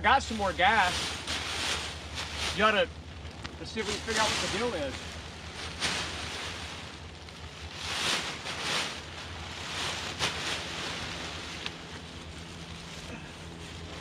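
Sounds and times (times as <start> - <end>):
rustling: 0.1 - 14.0.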